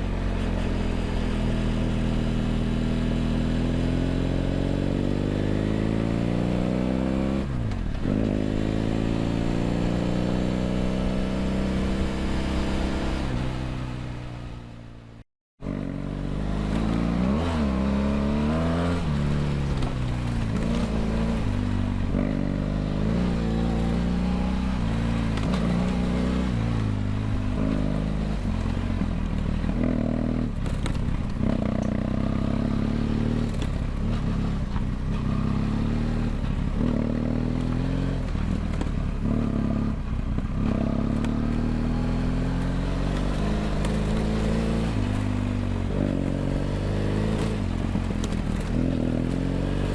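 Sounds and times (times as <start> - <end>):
motorcycle engine revving: 0.0 - 14.7, 15.6 - 49.9.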